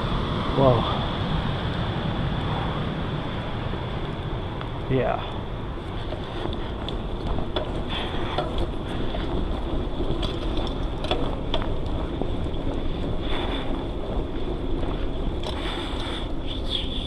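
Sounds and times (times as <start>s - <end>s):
bicycle rolling noise: 0.0s - 17.0s.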